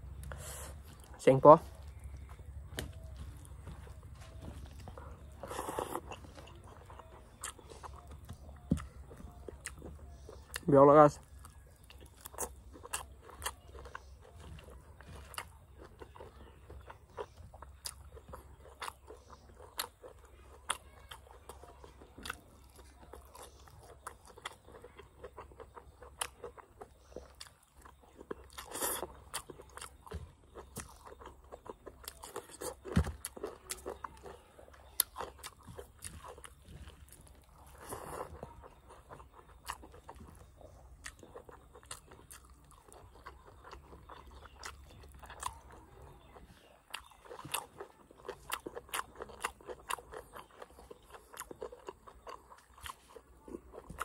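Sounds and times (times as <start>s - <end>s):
wet chewing and mouth smacks: 0.0s - 54.0s.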